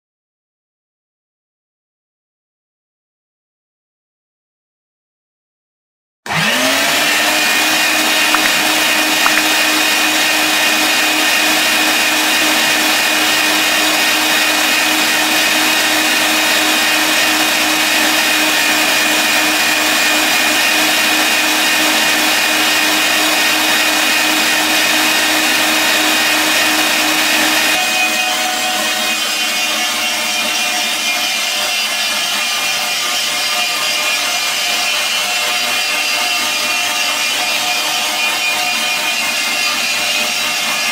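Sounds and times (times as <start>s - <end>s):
meat grinder motor whining: 6.3s - 40.9s.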